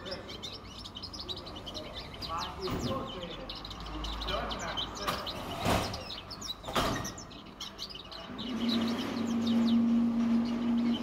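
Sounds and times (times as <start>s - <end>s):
songbird twittering: 0.0s - 11.0s.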